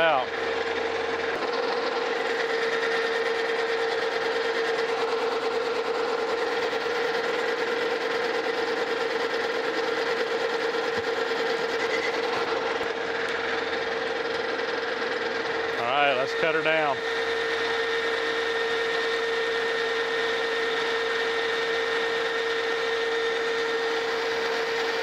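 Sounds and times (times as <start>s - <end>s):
metal lathe cutting steel: 0.0s - 25.0s.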